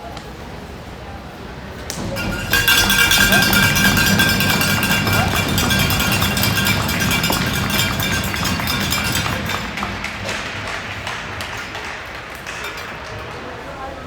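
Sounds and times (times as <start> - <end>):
metallic noisemaker clanging: 1.9 - 14.0
spectators cheering: 1.9 - 14.0.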